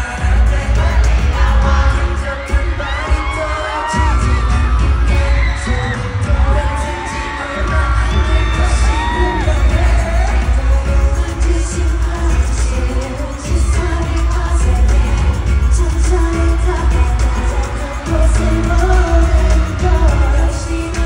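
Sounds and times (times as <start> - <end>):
group singing live: 0.0 - 21.0
pop backing track with bass beat: 0.0 - 21.0.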